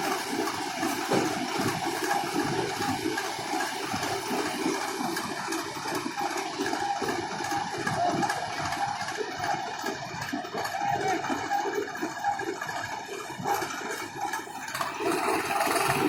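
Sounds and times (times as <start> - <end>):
combine harvester working: 0.0 - 16.0.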